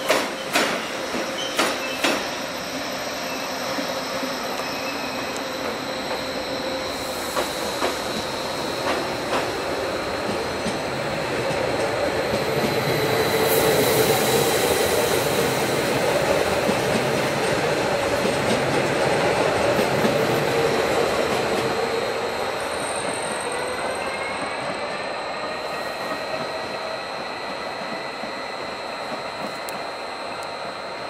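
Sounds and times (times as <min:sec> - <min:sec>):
train rumbling past: 0:00.0 - 0:31.0
train wheels squealing: 0:00.0 - 0:31.0.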